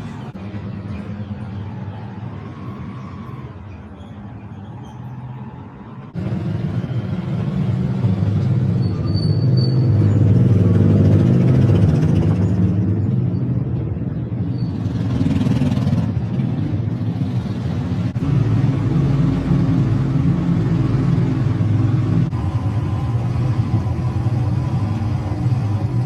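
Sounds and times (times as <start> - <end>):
engine rumbling: 0.0 - 26.0.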